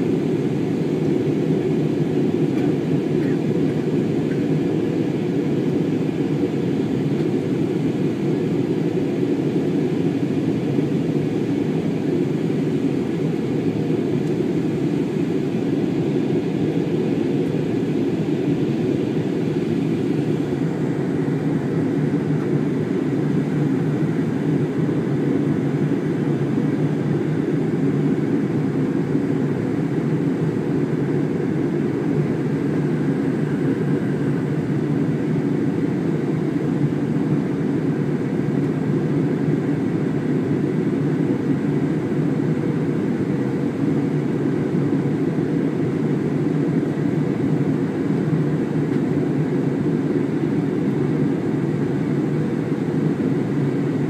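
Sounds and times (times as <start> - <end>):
jet engine and airflow drone: 0.0 - 54.0.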